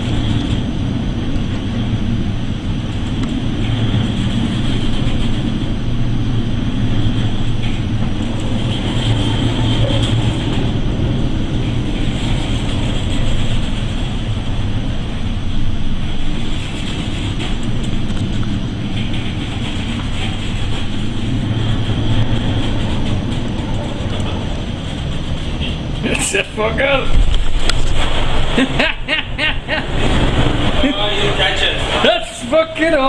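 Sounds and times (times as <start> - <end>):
boat engine running: 0.0 - 33.0
rush of wind and water: 0.0 - 33.0.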